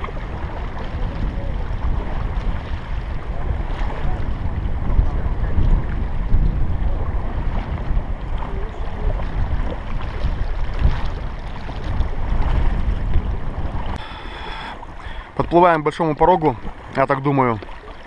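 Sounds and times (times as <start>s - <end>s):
wind on microphone: 0.0s - 15.6s
river water: 0.0s - 18.0s.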